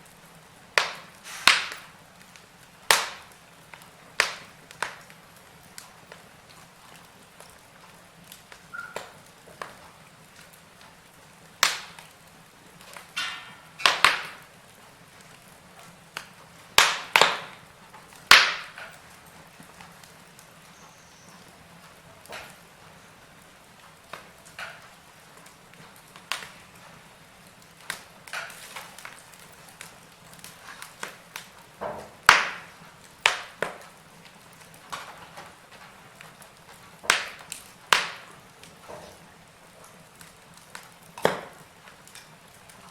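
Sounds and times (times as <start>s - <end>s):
faint steady hiss: 0.0s - 42.9s
wood fire crackling and popping: 0.0s - 42.9s.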